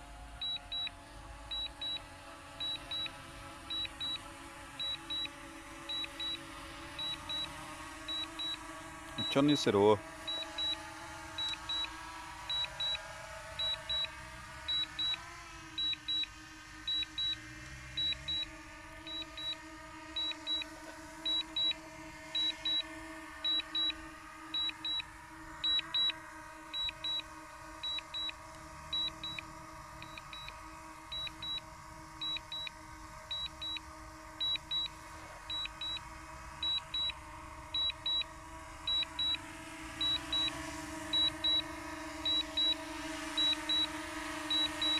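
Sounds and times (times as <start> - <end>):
drone propellers humming: 0.0 - 44.9.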